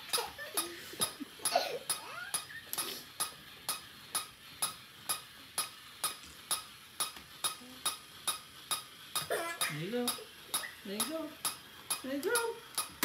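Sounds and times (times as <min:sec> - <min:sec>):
pendulum device clicking: 0:00.0 - 0:13.0.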